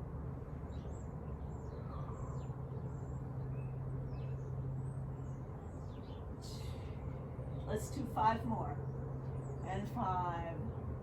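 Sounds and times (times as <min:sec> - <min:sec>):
low outdoor hum: 0:00.0 - 0:11.0.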